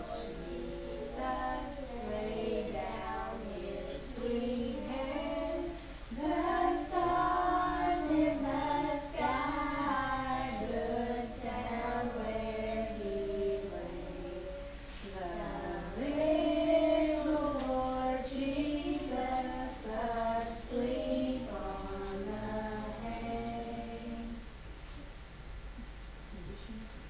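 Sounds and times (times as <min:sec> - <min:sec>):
young children singing: 0:00.0 - 0:24.5.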